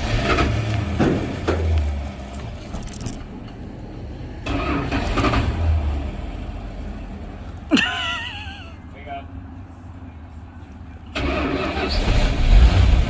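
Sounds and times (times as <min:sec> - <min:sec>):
pickup engine rumbling: 0:00.0 - 0:13.0.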